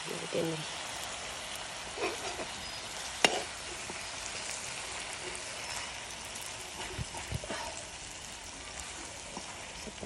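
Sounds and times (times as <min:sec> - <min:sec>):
fish sizzling in hot oil: 0:00.0 - 0:10.0.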